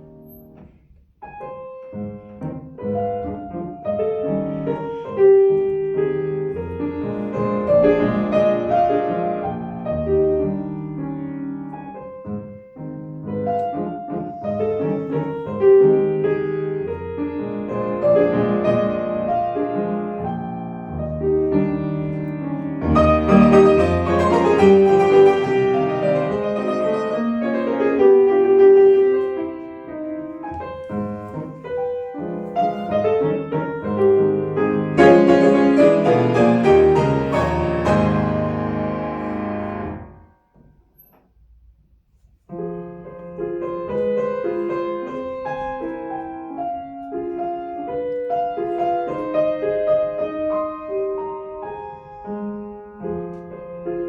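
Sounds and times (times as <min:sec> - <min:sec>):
solo piano classical music: 0:00.0 - 0:54.0.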